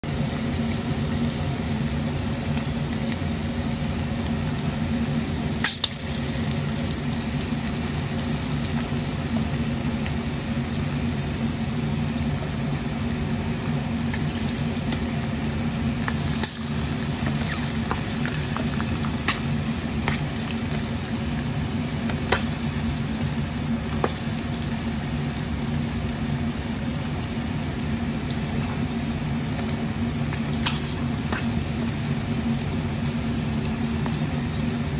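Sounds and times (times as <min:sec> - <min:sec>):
deep-frying sizzle with pops: 0:00.0 - 0:34.9.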